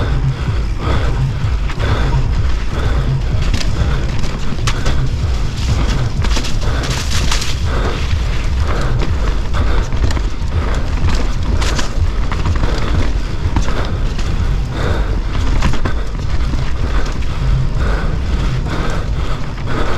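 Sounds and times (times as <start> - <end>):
tyres on loose dirt: 0.0 - 19.9
wind rumble on microphone: 0.0 - 19.9
bike chain and frame clattering: 2.4 - 19.7.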